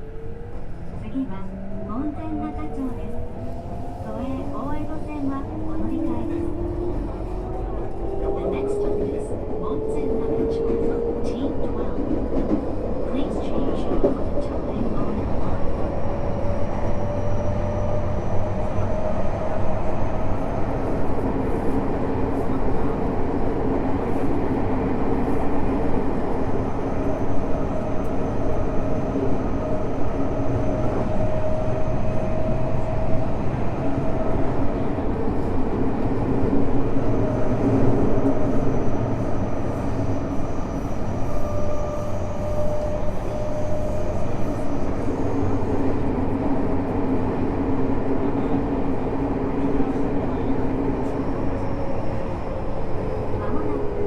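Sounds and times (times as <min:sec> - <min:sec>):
subway wheels rumbling on track: 0:00.0 - 0:54.0.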